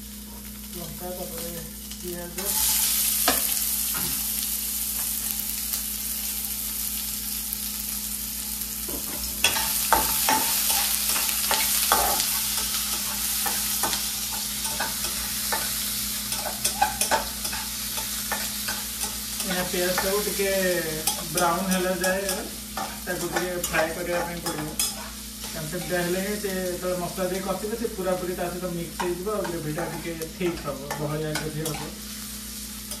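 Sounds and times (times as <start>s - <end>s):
onion sizzling in oil: 0.0s - 33.0s.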